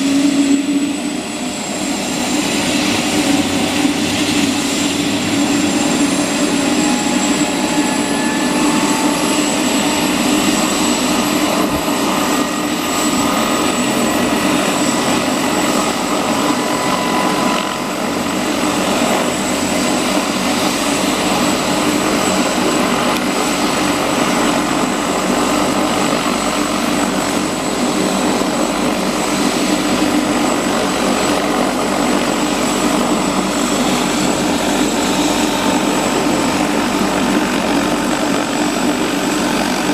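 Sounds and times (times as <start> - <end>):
helicopter turbine whining: 0.0 - 39.9.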